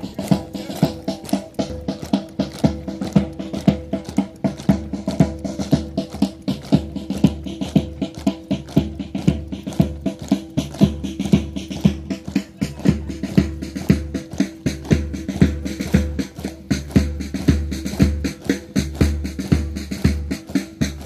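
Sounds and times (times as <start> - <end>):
quick drum beat: 0.0 - 21.0.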